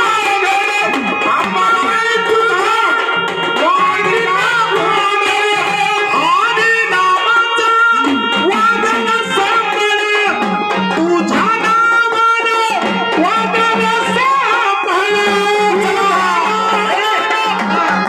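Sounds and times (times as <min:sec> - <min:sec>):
drum steady beat: 0:00.0 - 0:18.0
folk music: 0:00.0 - 0:18.0.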